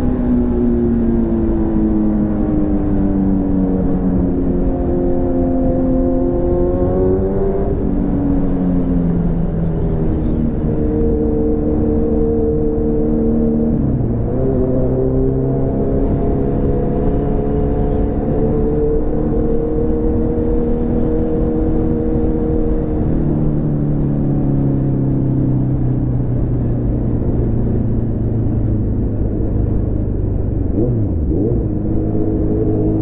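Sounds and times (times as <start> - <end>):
motorcycle engine riding along: 0.0 - 33.0.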